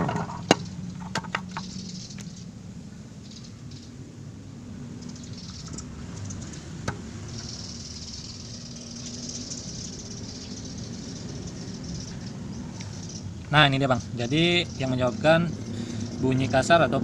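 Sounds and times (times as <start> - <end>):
steady low hum: 0.0 - 17.0
soft high hiss: 0.4 - 17.0.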